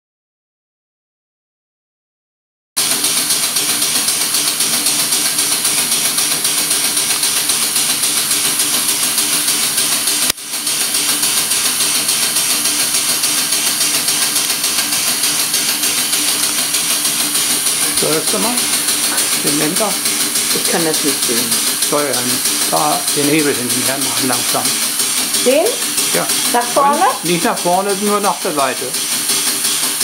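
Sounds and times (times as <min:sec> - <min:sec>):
model steam engine exhaust hissing: 0:02.8 - 0:30.0.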